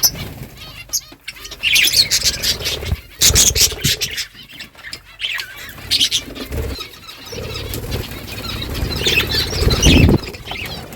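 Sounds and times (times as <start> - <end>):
budgerigars chirping: 0.0 - 10.9.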